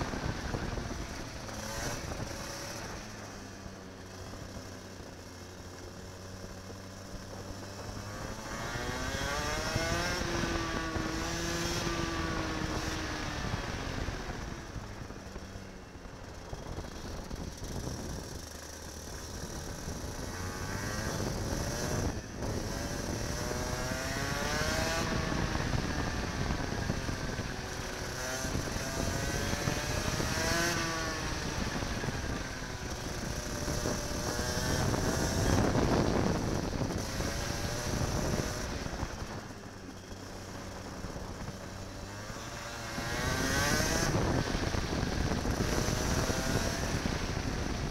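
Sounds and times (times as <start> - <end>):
kart engine revving: 0.0 - 3.1, 3.9 - 15.1, 16.6 - 47.9.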